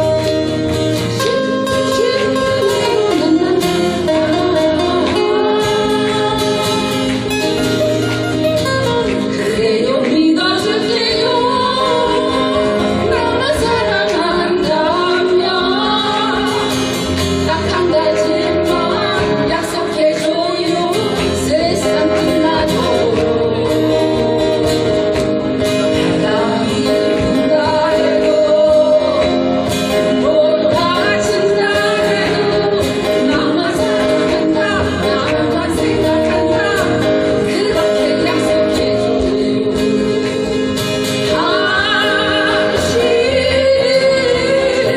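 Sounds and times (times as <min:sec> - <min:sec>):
strummed guitar chords: 0:00.0 - 0:44.9
person singing: 0:08.8 - 0:44.9.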